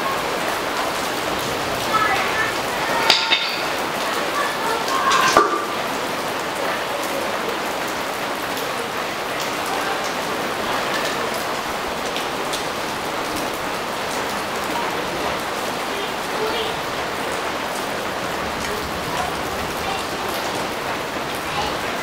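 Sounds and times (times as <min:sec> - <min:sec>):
rain on foliage: 0:00.0 - 0:22.0.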